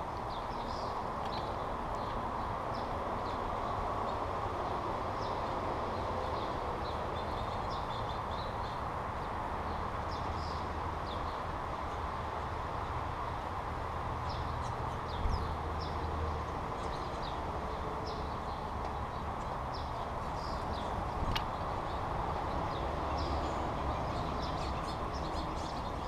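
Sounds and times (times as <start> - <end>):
small birds chirping: 0.0 - 13.6, 14.2 - 26.0
steady background noise: 0.0 - 26.0.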